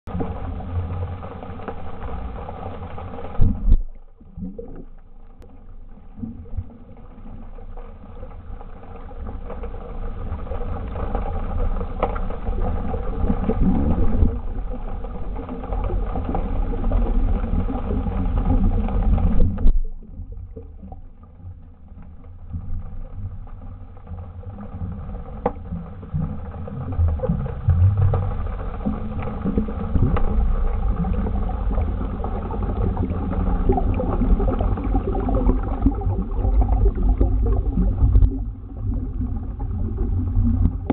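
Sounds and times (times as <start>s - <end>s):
muffled underwater rumble: 0.0s - 40.9s.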